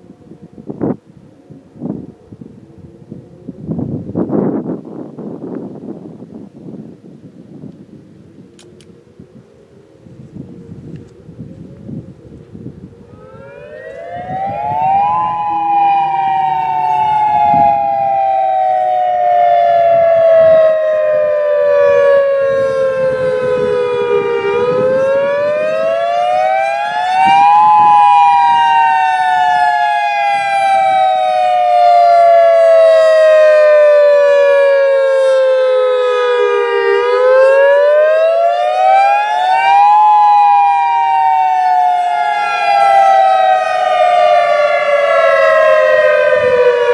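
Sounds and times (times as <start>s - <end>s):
tornado siren wailing: 0.0s - 46.9s.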